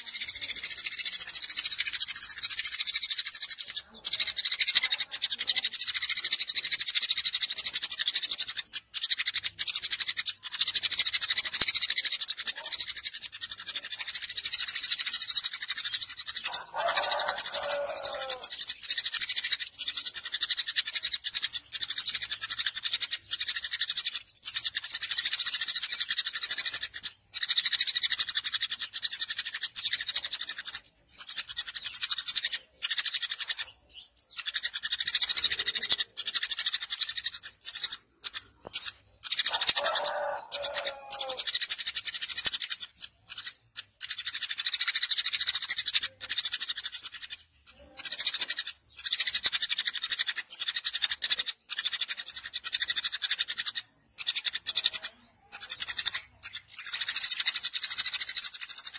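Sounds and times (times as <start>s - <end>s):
sparrow chirping: 0.0s - 58.9s.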